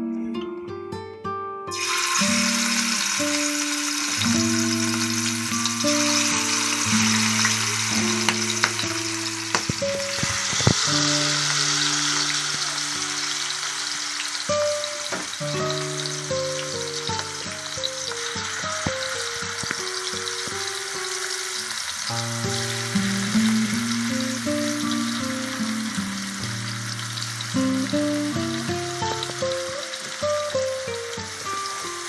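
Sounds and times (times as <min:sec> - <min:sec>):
food sizzling in oil: 0:01.7 - 0:32.0.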